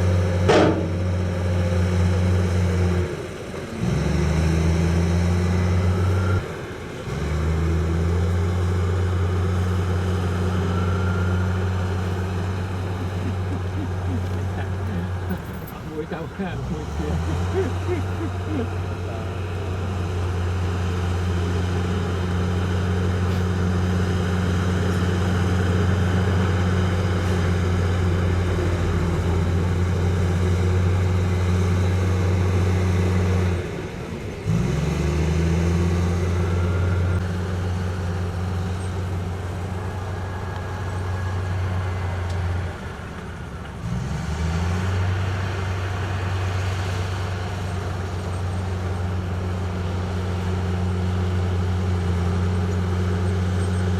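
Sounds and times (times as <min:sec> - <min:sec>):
heavy diesel engine revving: 0:00.0 - 0:53.9.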